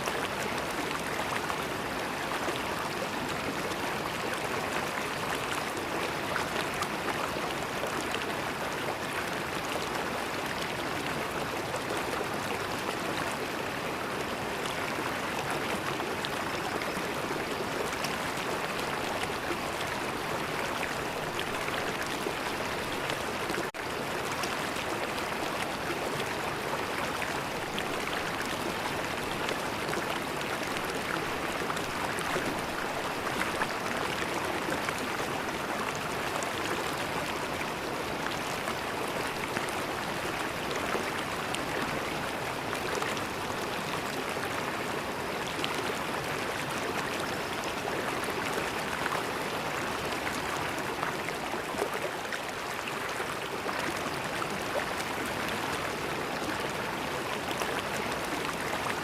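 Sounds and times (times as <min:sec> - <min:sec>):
river water flowing and gurgling: 0:00.0 - 0:59.0.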